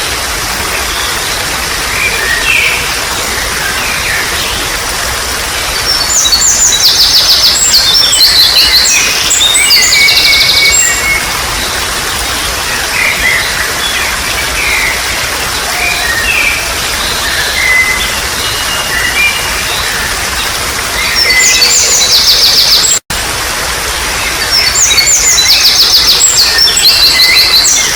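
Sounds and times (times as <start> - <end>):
wild birds singing: 0.0 - 23.0, 24.0 - 27.9
trickling water: 0.0 - 27.9.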